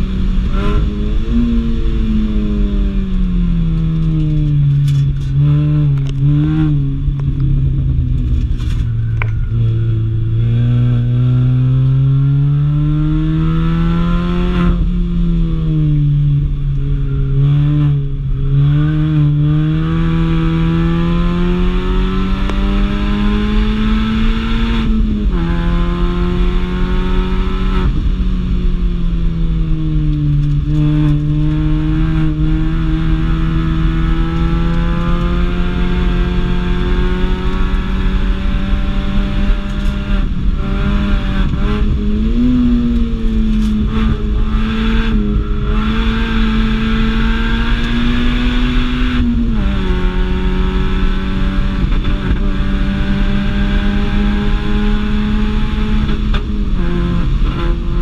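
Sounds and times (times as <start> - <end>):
car engine accelerating: 0.0 - 58.0
road noise: 0.0 - 58.0
wind noise: 0.0 - 58.0.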